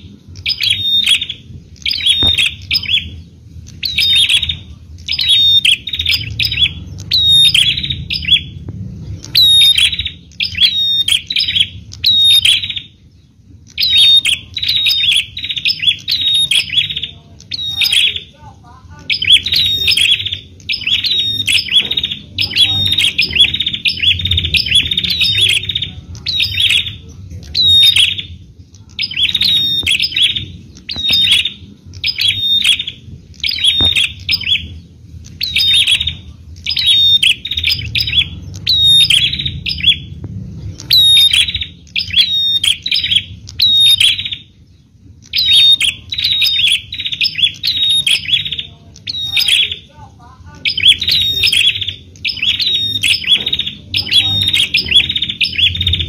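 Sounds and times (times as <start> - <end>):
bird calling with sharp chirps: 0.0 - 56.0.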